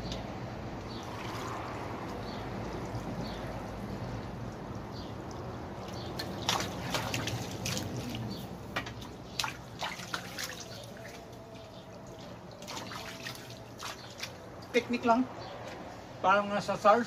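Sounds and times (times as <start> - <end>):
water trickling and dripping: 0.0 - 15.1.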